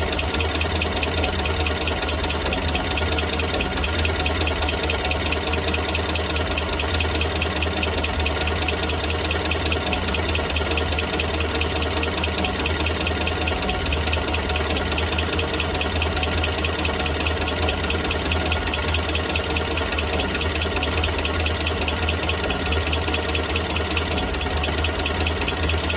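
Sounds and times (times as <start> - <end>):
engine idling: 0.0 - 25.9
fast even ticking: 0.0 - 25.9.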